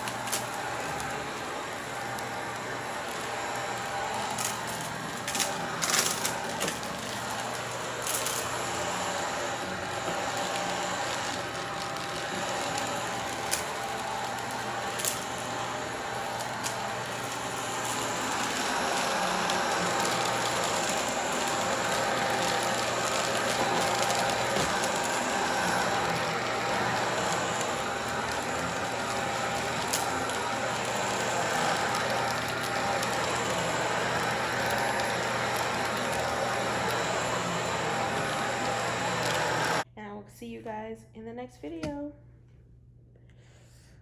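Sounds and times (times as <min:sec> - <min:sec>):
vacuum cleaner running over rug: 0:00.0 - 0:39.9.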